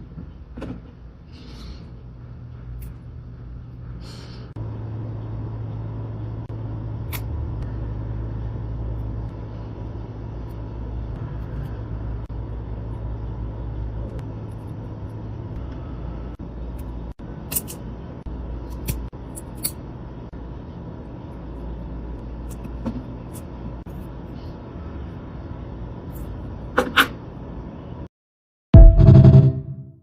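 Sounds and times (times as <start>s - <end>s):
low mechanical hum: 0.0s - 28.1s.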